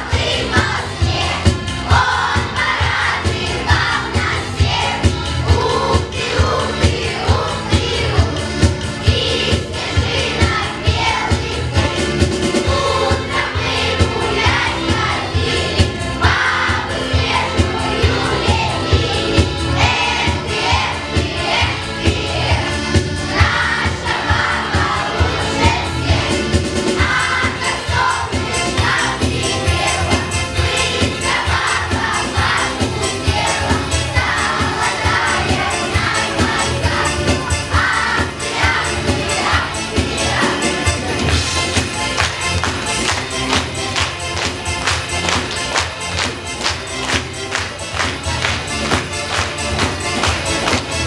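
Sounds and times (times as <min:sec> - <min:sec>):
backing track with steady beat: 0:00.0 - 0:51.0
children's choir singing: 0:00.0 - 0:51.0.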